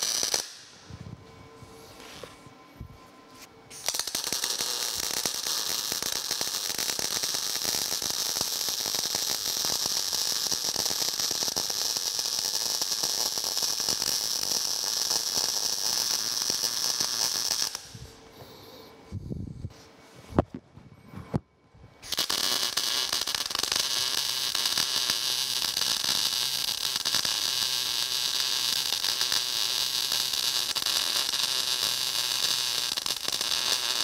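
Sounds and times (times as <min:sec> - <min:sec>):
arc welding crackling sizzle: 0:00.0 - 0:00.9, 0:03.7 - 0:18.2, 0:22.0 - 0:34.0.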